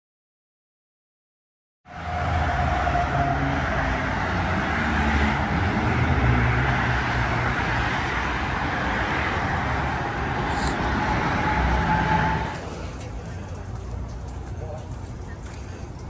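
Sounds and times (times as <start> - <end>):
freeway traffic: 1.9 - 16.0.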